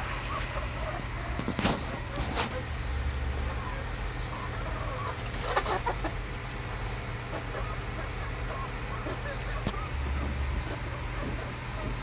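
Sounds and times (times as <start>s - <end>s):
hens clucking softly: 0.0s - 12.0s.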